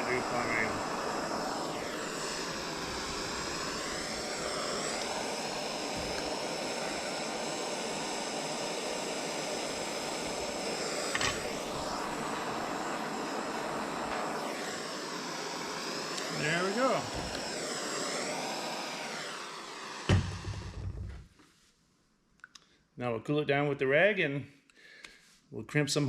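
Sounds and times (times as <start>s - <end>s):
gas torch hissing: 0.0s - 21.1s.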